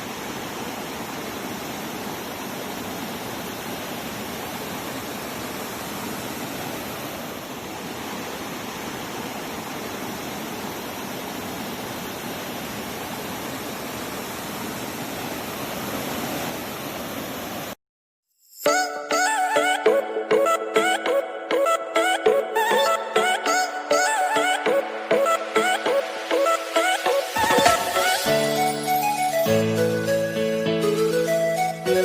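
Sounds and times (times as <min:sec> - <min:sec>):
waterfall rushing: 0:00.0 - 0:17.8, 0:22.6 - 0:32.0.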